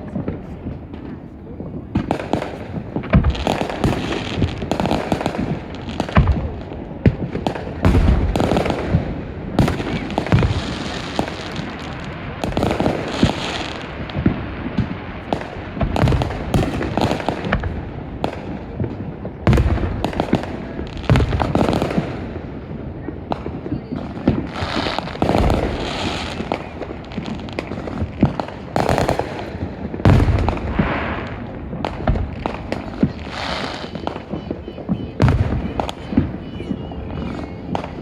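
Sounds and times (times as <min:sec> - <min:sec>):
firecracker bangs and crackling: 0:00.0 - 0:38.0
fireworks booming: 0:00.0 - 0:38.0.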